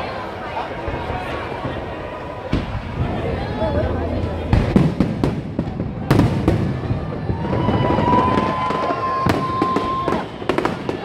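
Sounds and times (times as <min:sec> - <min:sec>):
fireworks bangs: 0:00.8 - 0:11.0
fireworks crackling: 0:00.8 - 0:11.0.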